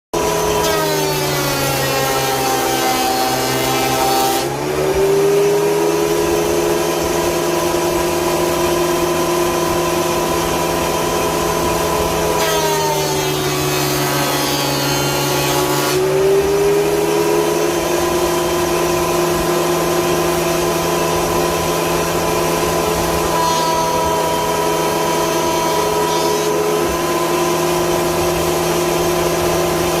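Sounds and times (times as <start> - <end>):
electric planer whining: 0.2 - 30.0
planer blades cutting wood: 0.2 - 30.0.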